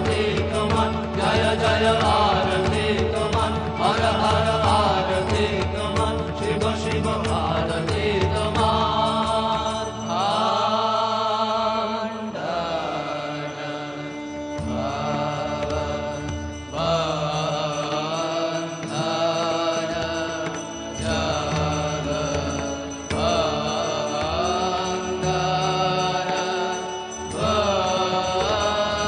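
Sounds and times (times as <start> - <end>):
chanted devotional melody: 0.0 - 29.0.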